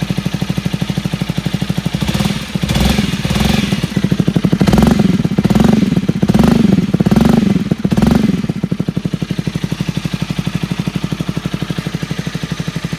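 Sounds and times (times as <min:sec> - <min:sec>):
motorcycle engine revving and idling: 0:00.0 - 0:12.9.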